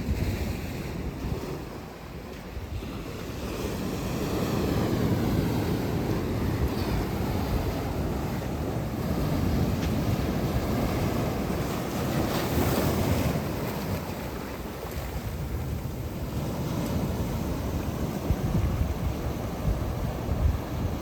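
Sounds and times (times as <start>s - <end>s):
sea waves washing onto shore: 0.0s - 21.0s
wind buffeting microphone: 0.0s - 21.0s.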